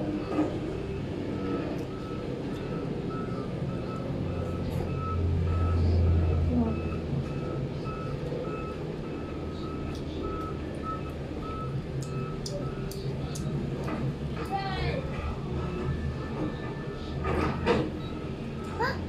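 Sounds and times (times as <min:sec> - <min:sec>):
reversing alarm beeping: 0:00.0 - 0:13.9, 0:15.4 - 0:19.0
low engine rumble: 0:00.0 - 0:19.0.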